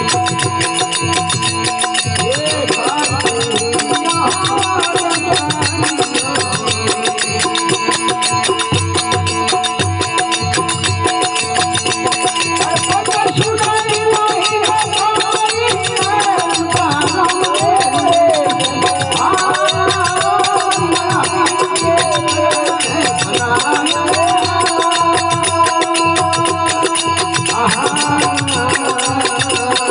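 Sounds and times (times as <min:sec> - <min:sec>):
jingling percussion: 0:00.0 - 0:29.9.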